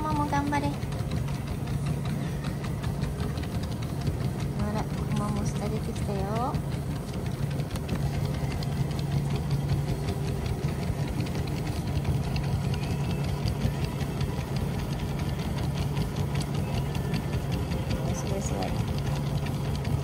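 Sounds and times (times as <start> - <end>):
dogs trotting ticking: 0.0 - 20.0
treadmill motor and belt hum: 0.0 - 20.0.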